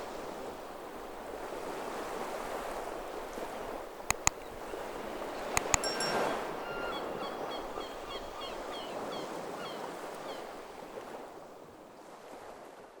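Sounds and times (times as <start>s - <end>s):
sea surf: 0.0s - 13.0s.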